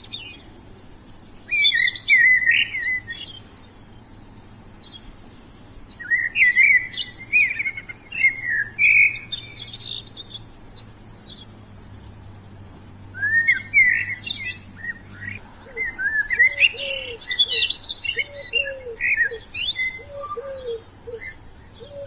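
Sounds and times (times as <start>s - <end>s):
songbird chirping and warbling: 0.0s - 22.0s.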